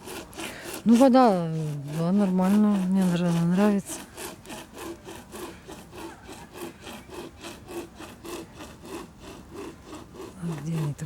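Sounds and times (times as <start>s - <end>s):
hand saw rasping through log: 0.0s - 11.0s.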